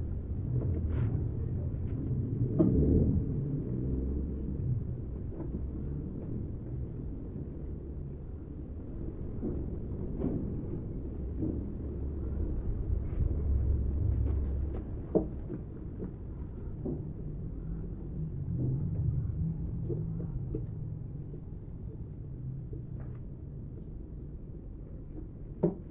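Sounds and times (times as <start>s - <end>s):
steady low rumble: 0.0s - 25.9s.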